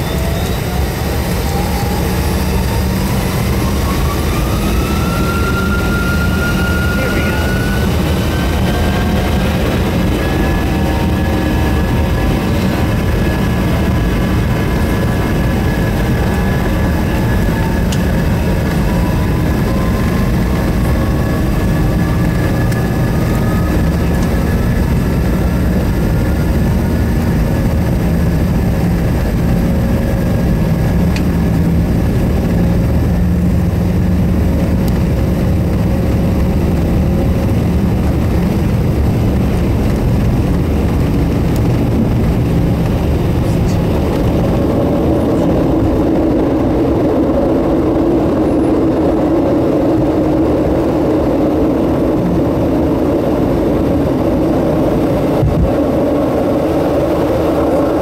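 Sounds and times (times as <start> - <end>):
jet engines at high thrust: 0.0 - 58.0.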